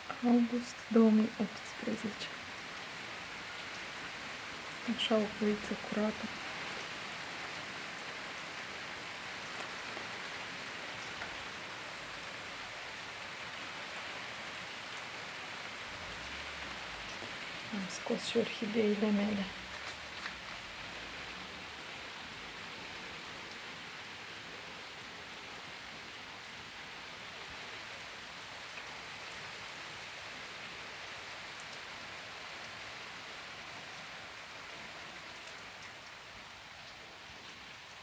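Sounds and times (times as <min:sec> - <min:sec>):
rain on paving and plants: 0:00.0 - 0:38.0.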